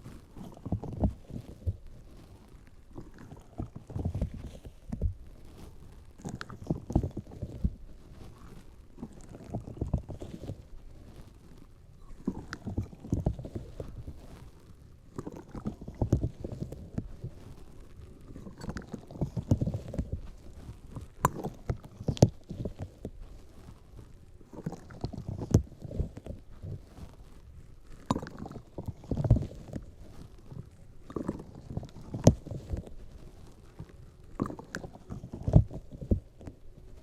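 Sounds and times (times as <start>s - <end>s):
rustling against microphone: 0.0s - 37.0s.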